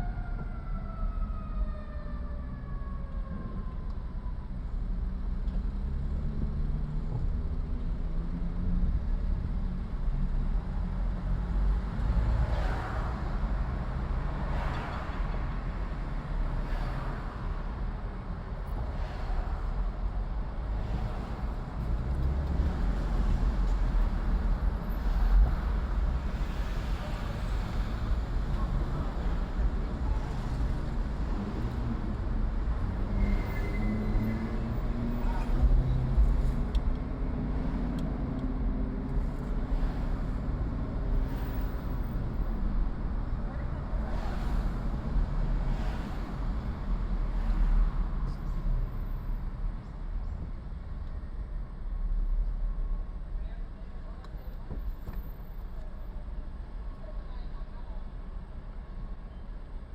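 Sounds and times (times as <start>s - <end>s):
car engine and road rumble: 0.0s - 59.9s
passing traffic: 0.0s - 59.9s.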